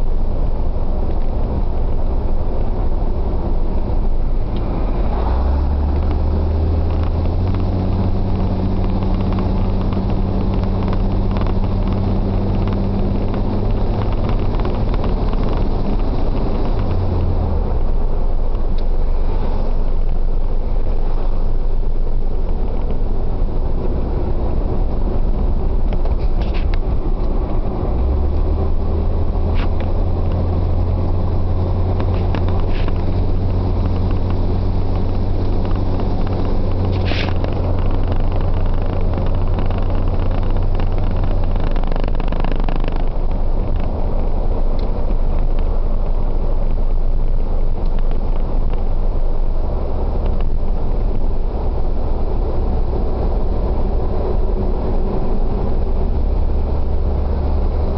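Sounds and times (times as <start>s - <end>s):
low hum: 0.0s - 57.9s
road rumble: 0.0s - 57.9s
truck engine drone: 0.0s - 57.9s.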